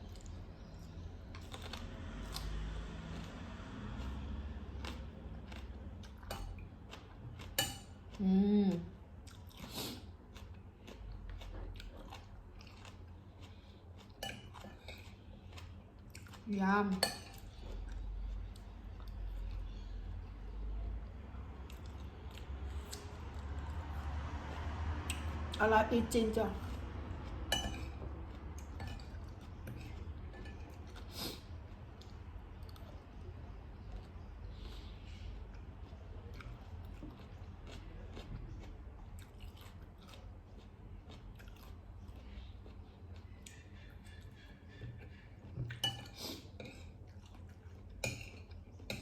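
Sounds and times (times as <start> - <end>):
person chewing crunchy food: 0.0 - 20.4, 26.6 - 49.0.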